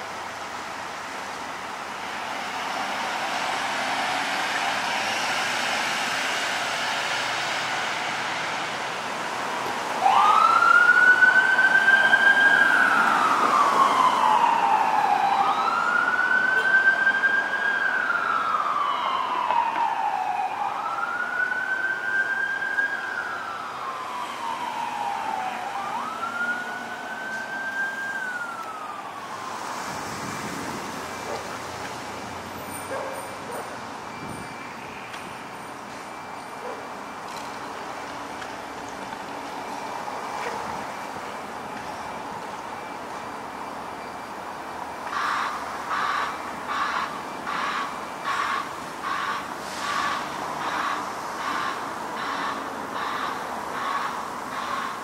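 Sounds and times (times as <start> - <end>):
vehicle engine and road noise: 0.0 - 55.0
ambulance wail siren: 1.6 - 55.0.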